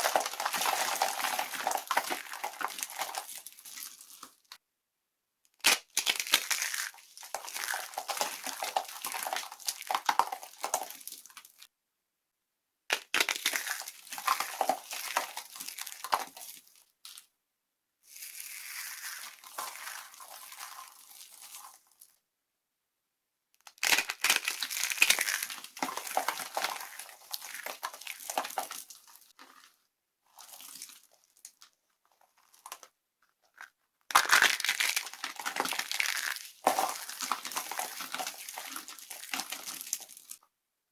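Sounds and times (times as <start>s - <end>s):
dry soap crunching: 0.0s - 4.6s, 5.6s - 11.7s, 12.9s - 17.3s, 18.1s - 22.2s, 23.6s - 40.4s.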